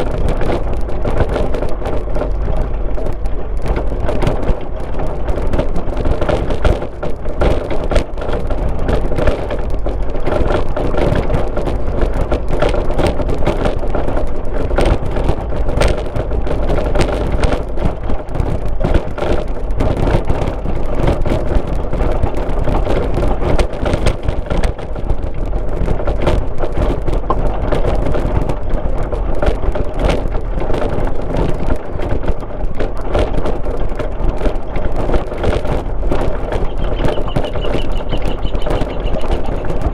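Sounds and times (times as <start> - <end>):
car engine and tyre noise: 0.0 - 39.9
small clicks and rattles: 0.0 - 39.9.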